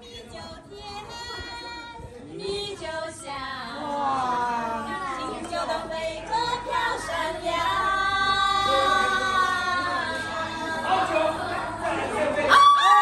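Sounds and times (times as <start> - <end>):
women singing: 0.0 - 12.7.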